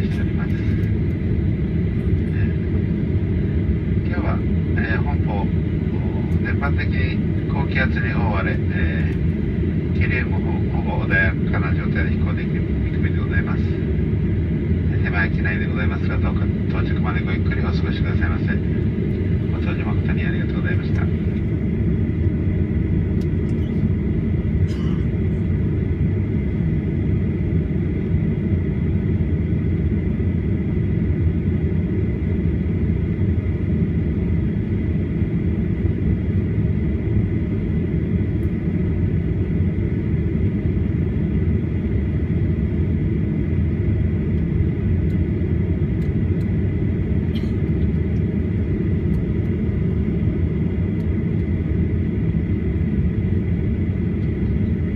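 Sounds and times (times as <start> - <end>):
aircraft cabin low rumble: 0.0 - 54.9.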